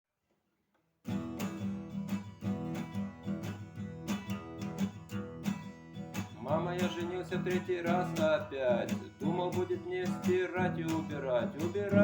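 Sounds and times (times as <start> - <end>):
acoustic guitar strumming: 1.1 - 12.0.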